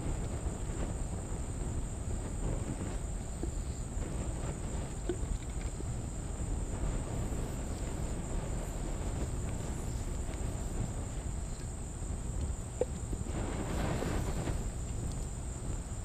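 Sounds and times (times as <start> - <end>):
crickets droning: 0.0 - 16.0
low steady rumble: 0.0 - 16.0.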